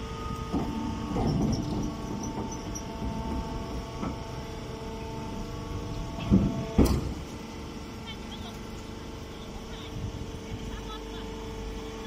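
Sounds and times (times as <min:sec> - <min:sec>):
motor and pump humming: 0:00.0 - 0:12.0.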